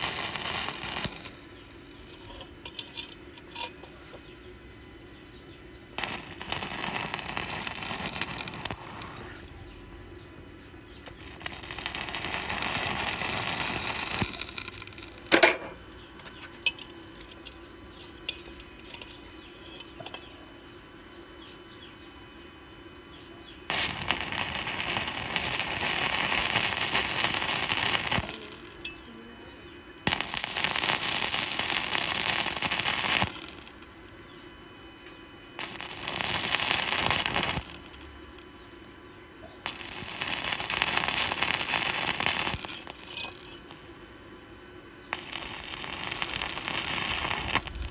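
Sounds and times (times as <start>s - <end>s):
welding arc crackling: 0.0s - 4.0s, 6.0s - 9.6s, 11.0s - 21.0s, 23.6s - 29.2s, 29.9s - 34.4s, 35.6s - 47.9s.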